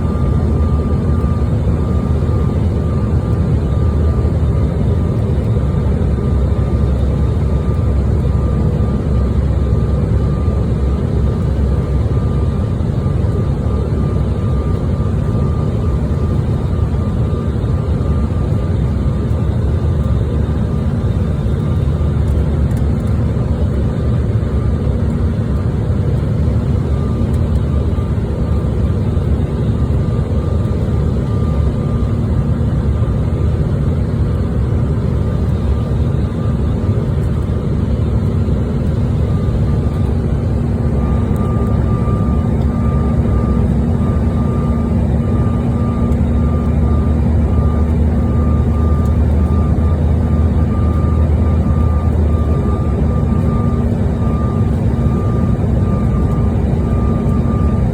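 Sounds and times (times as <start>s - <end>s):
jet engine and airflow rumble: 0.0s - 57.9s.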